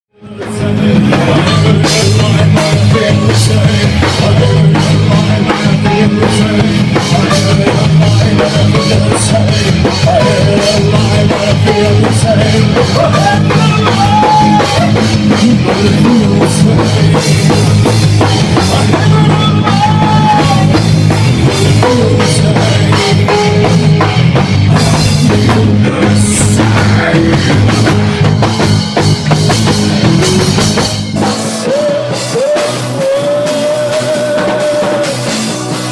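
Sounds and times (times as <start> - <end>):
rock band playing live: 0.1 - 35.9.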